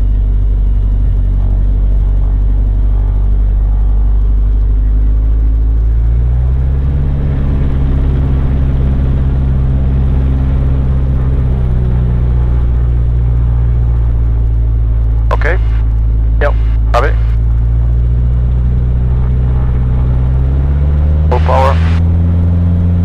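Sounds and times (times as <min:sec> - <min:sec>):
aircraft engine drone in cabin: 0:00.0 - 0:23.0.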